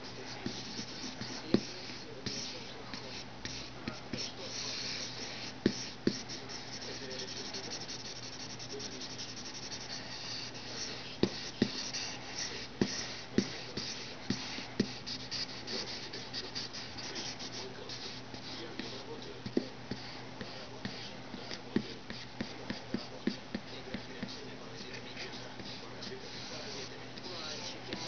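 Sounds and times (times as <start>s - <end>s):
pencil scratching on paper: 0.0s - 28.0s.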